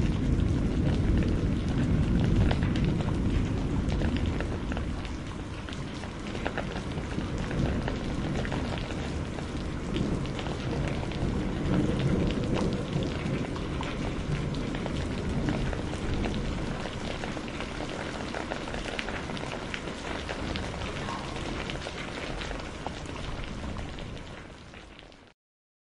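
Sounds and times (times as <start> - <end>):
thunder rumble: 0.0 - 24.9
rain falling: 0.0 - 25.3
raindrops spattering: 0.0 - 25.3.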